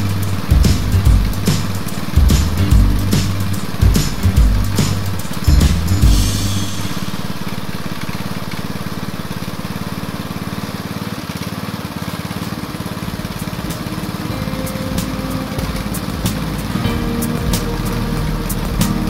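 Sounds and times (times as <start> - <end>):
petrol water pump running: 0.0 - 19.0.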